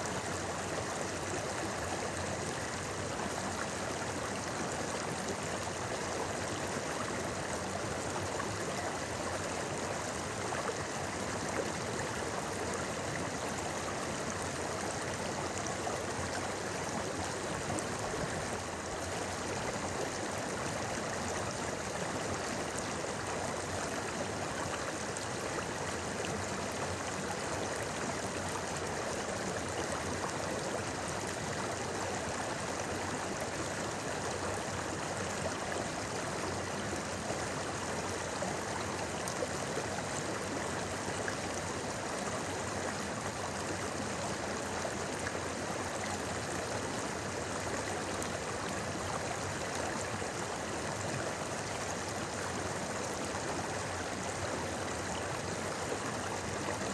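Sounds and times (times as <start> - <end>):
shallow river babbling: 0.0 - 56.9.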